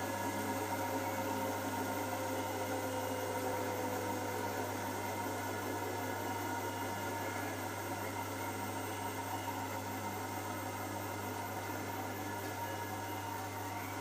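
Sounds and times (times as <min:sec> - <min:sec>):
washing machine spinning: 0:00.0 - 0:14.0.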